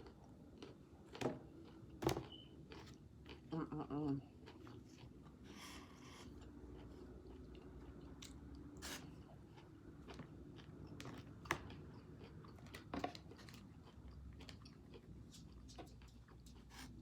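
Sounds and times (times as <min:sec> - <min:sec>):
person chewing food: 0:00.0 - 0:03.5, 0:04.2 - 0:17.0.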